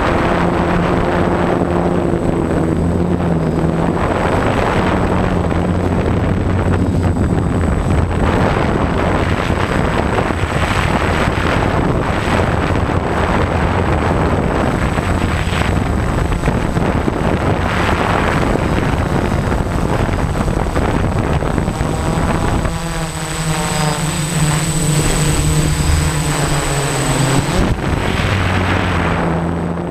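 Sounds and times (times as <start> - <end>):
drone motors humming: 0.0 - 29.9
wind noise on microphone: 0.0 - 29.9.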